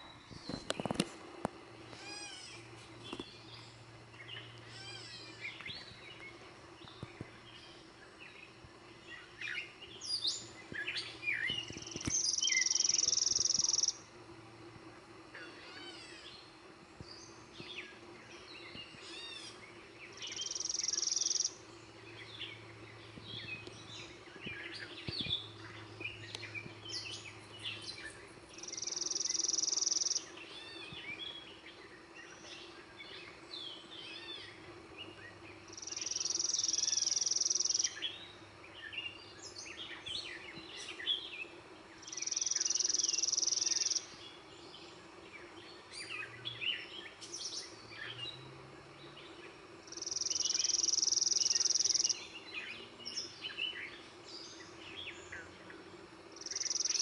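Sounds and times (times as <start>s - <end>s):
faint low hum: 0.0s - 57.0s
birds chirping and calling: 1.9s - 14.1s, 15.3s - 57.0s.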